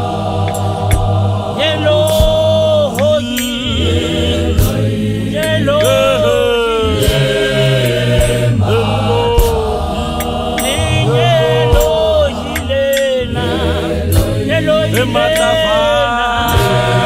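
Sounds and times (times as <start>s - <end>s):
gospel choir singing: 0.0s - 17.0s
lead voice singing: 0.0s - 17.0s
low bass: 0.0s - 17.0s
sharp beats: 0.0s - 17.0s.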